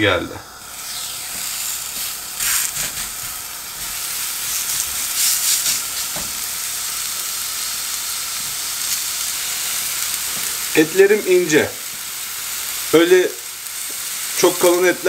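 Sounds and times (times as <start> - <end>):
steak sizzling on grill pan: 0.4 - 15.0.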